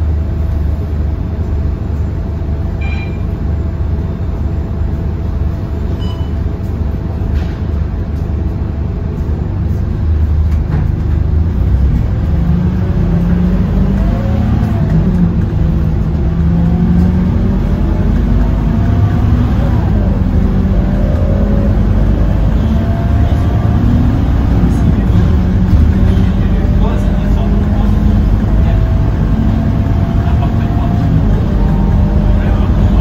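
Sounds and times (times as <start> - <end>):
bus diesel engine rumbling: 0.0 - 33.0.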